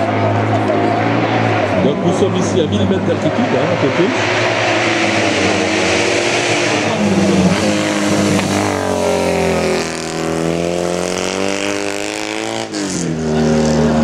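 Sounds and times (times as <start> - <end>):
racing engine passing by: 0.0 - 14.0.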